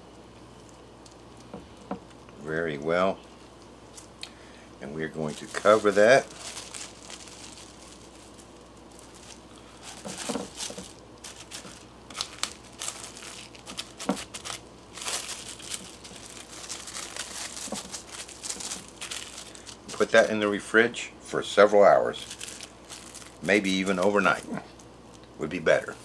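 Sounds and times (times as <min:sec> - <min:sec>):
cling wrap crinkling: 0:00.5 - 0:20.6, 0:21.4 - 0:26.0.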